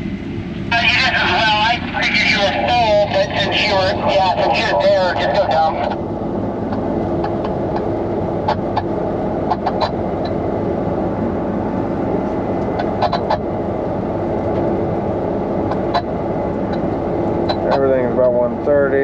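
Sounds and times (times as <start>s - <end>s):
combine harvester drone: 0.0s - 19.0s.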